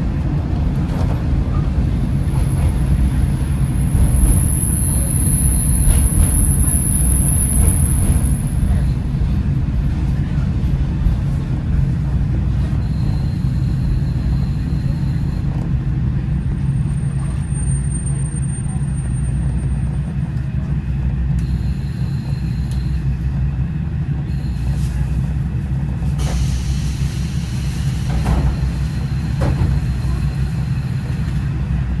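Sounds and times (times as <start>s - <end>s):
diesel engine low drone: 0.0s - 32.0s.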